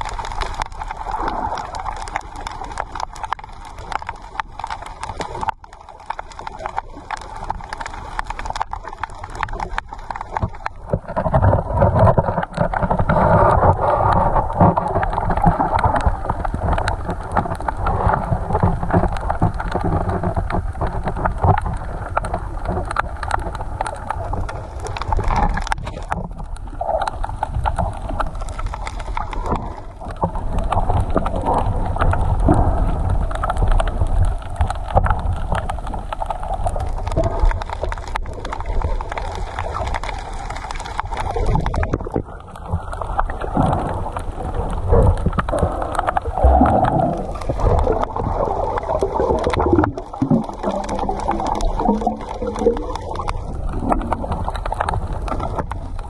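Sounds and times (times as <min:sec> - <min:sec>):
underwater rushing and gurgling: 0:00.0 - 0:56.0.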